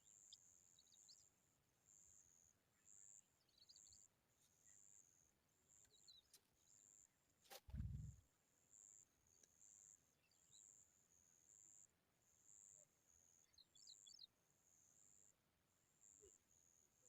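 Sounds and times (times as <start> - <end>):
faint high bird chirps: 0.0 - 15.3, 16.0 - 17.0.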